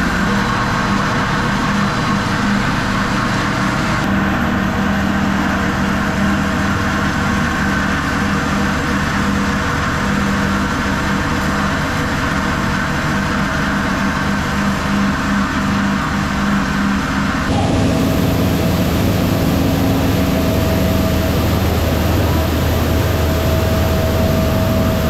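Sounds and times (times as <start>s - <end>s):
flour mill motor humming: 0.0s - 25.0s.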